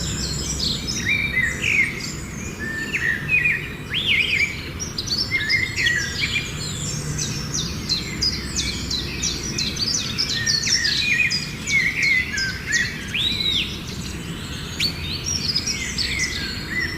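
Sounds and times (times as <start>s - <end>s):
birds chirping and whistling: 0.0s - 16.9s.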